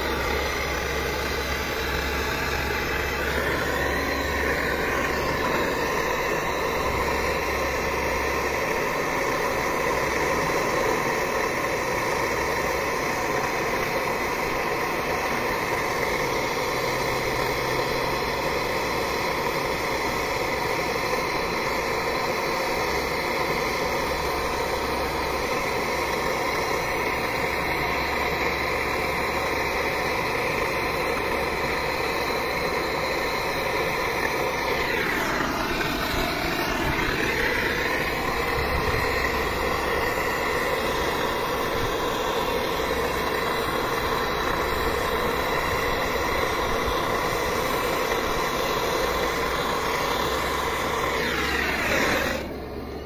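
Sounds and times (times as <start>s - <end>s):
gas torch hissing: 0.0s - 53.0s.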